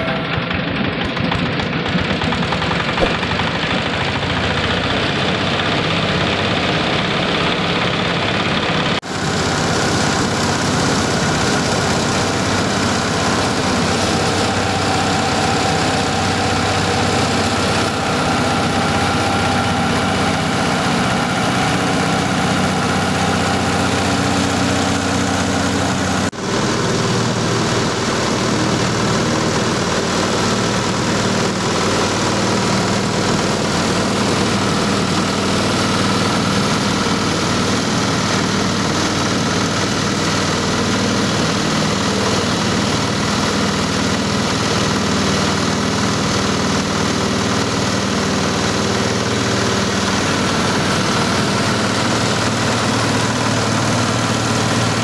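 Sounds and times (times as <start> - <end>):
diesel engine running under load: 0.0 - 55.0
hammer mill grinding husks: 0.0 - 55.0.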